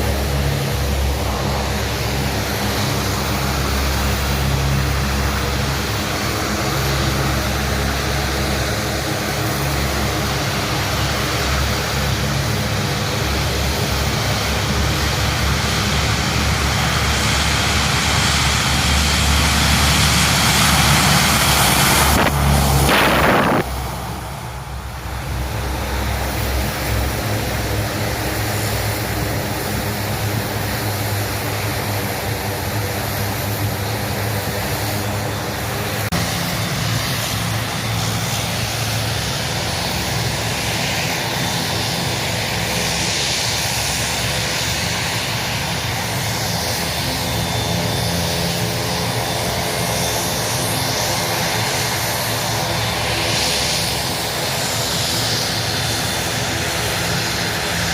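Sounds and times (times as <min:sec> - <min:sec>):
propeller airplane engine droning: 0:00.0 - 0:57.9.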